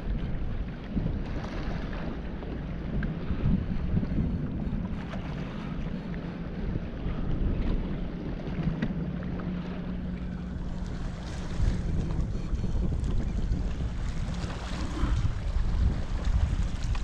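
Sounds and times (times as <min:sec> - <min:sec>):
water moving around kayak: 0:00.0 - 0:17.0
wind buffeting microphone: 0:00.0 - 0:17.0.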